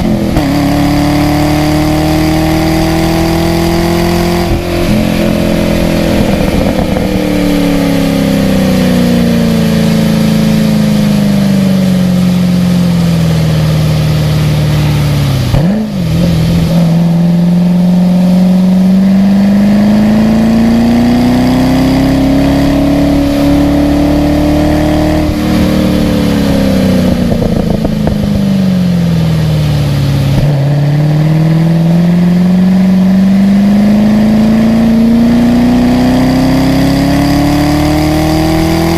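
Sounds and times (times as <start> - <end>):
race car engine: 0.0 - 38.9.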